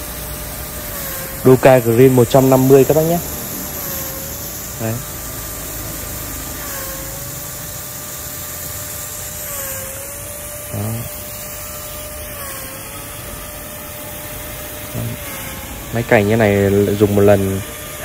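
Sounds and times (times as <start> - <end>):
sprinkler mechanical drone: 0.0 - 18.0
water jet hissing: 0.0 - 18.0.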